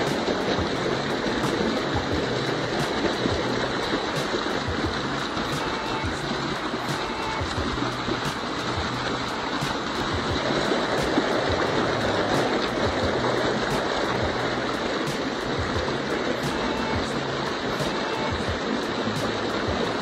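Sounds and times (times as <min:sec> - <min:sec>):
stream rushing over rock: 0:00.0 - 0:20.0.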